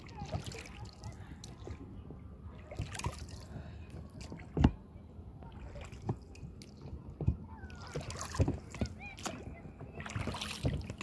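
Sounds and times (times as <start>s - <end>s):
water sloshing against inflatable boat: 0.0s - 11.0s.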